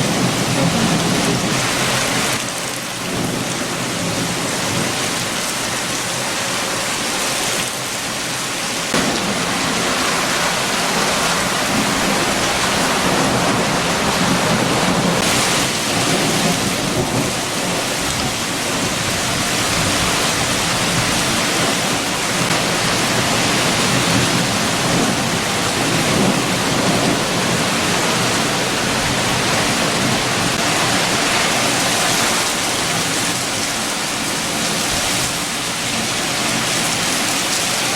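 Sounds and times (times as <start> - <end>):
heavy rain: 0.0 - 37.9
strong wind: 0.0 - 37.9.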